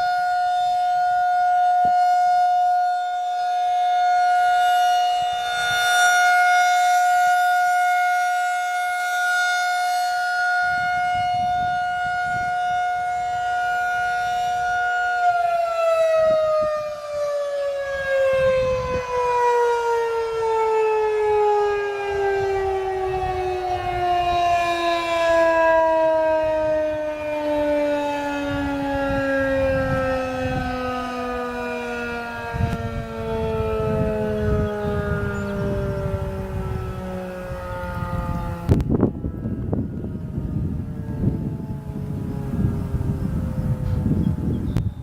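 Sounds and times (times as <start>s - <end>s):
warning siren winding down: 0.0s - 45.0s.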